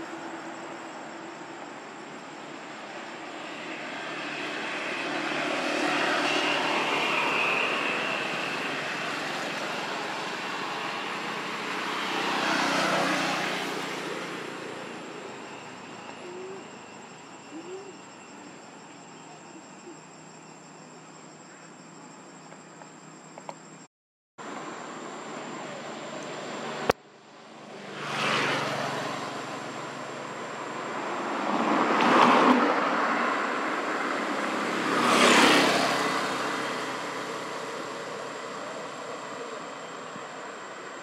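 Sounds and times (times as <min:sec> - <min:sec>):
vehicles passing by: 0:00.0 - 0:20.3, 0:24.4 - 0:41.0.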